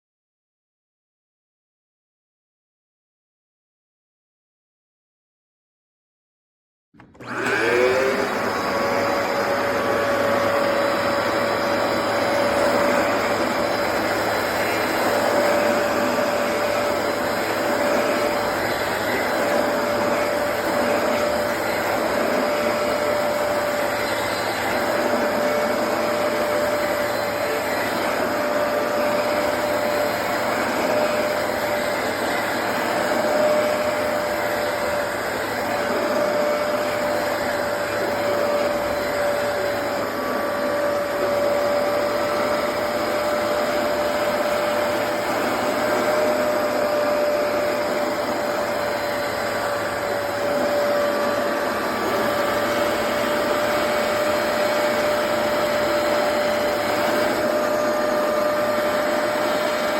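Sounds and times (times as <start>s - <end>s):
carpet cleaner motor whine: 7.0s - 59.9s.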